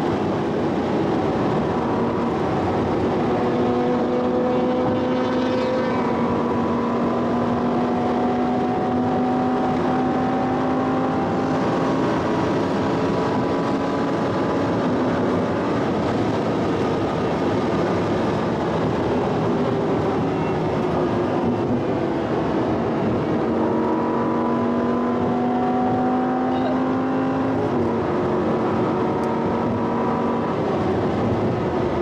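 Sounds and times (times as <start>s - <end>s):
car engine: 0.0s - 32.0s
road and wind noise in car: 0.0s - 32.0s.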